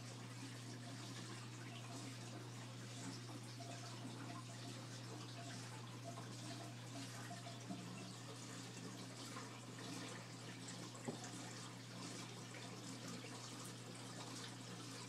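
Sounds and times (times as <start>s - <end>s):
aquarium filter water trickling: 0.0s - 15.0s.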